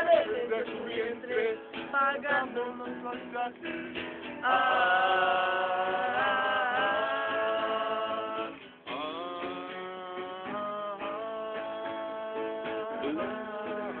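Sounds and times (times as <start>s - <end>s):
acoustic guitar: 0.0s - 14.0s
men singing: 0.0s - 14.0s.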